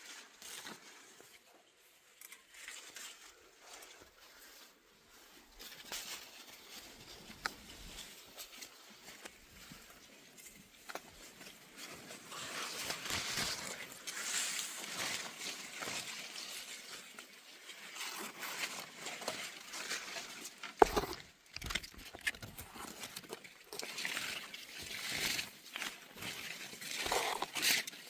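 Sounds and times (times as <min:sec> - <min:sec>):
rustling and crackling: 0:02.6 - 0:28.0.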